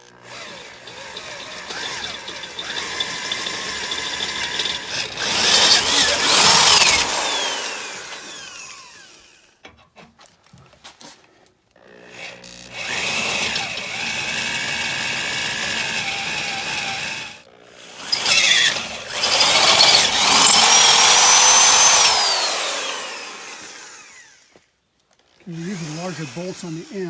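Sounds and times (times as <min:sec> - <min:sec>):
electric drill boring through steel: 0:00.0 - 0:09.4, 0:12.1 - 0:24.5, 0:25.5 - 0:27.0.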